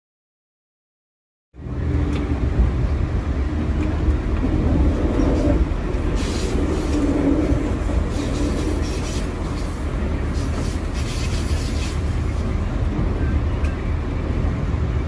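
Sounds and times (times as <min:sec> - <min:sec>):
passing train rushing hiss: 0:01.6 - 0:15.0
rail vehicle rumble: 0:01.6 - 0:15.0.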